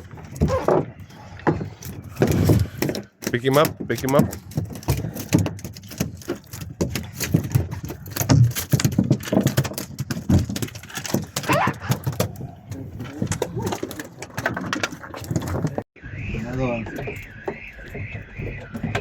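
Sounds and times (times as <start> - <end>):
knocks and thumps of handling: 0.0 - 15.9, 16.9 - 19.0.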